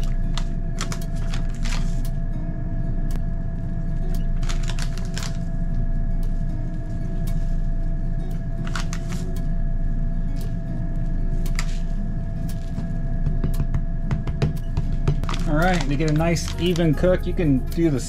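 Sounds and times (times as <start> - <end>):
low machine hum with whine: 0.0 - 18.0.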